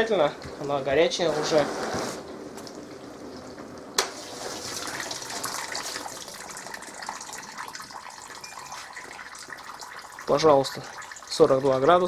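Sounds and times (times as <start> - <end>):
dishwasher water rushing: 0.0 - 12.0.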